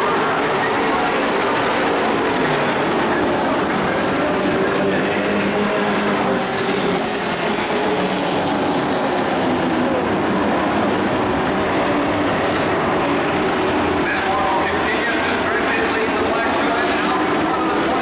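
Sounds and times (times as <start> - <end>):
race truck engines droning: 0.0 - 18.0.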